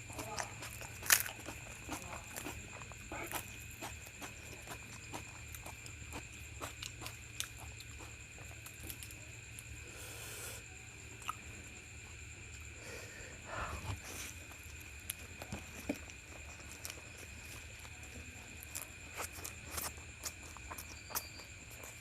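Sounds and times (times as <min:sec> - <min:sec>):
chewing and mouth sounds: 0:00.0 - 0:09.8, 0:11.2 - 0:11.5, 0:13.9 - 0:22.0
faint high hum: 0:00.0 - 0:22.0.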